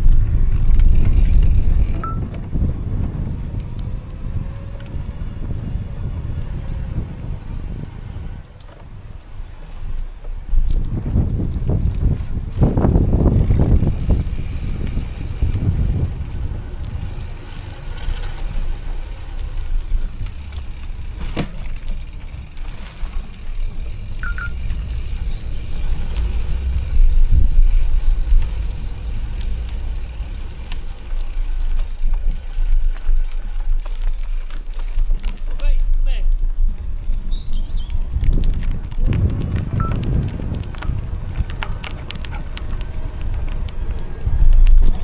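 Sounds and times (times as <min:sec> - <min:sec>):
wind buffeting microphone: 0:00.0 - 0:35.2, 0:36.3 - 0:45.0.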